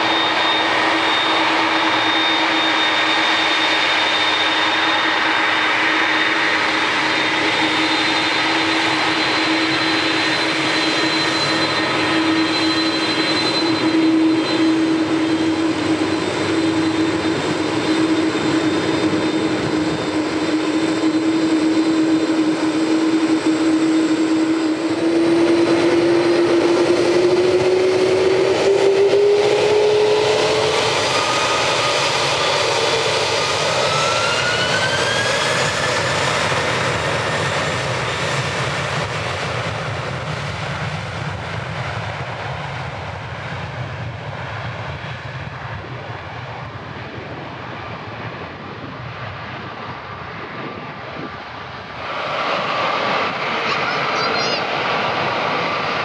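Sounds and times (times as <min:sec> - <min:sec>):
jet engines whining at takeoff: 0:00.0 - 0:56.0.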